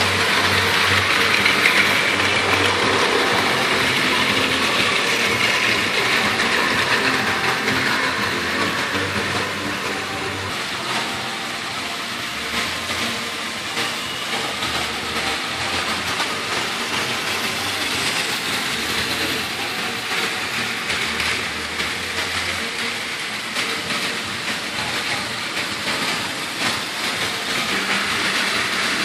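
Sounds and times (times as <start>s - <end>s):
toy trains whirring and clattering: 0.0s - 29.0s.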